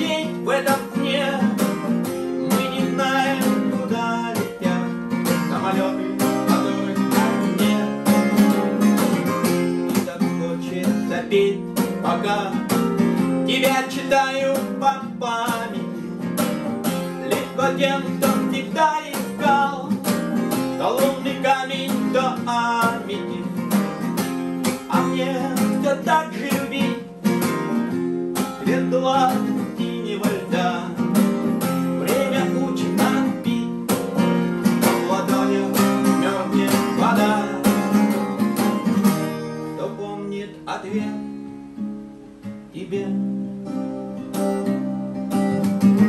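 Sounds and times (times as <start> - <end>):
man singing: 0.0 - 41.6, 42.6 - 43.8
acoustic guitars strummed and picked: 0.0 - 46.0.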